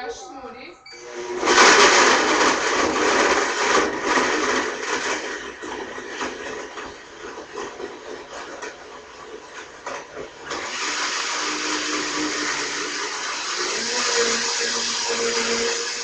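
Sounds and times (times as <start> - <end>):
blender whirring: 0.9 - 16.0
frozen fruit knocking in blender: 1.3 - 16.0.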